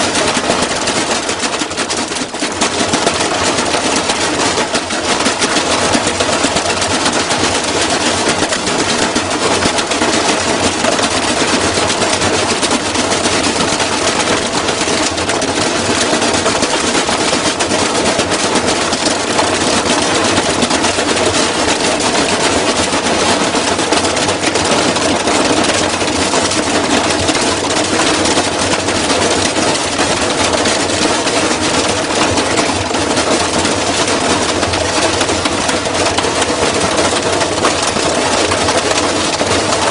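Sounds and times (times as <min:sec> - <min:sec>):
washing machine knocking and rattling: 0:00.0 - 0:39.9
washing machine motor tone: 0:00.0 - 0:39.9.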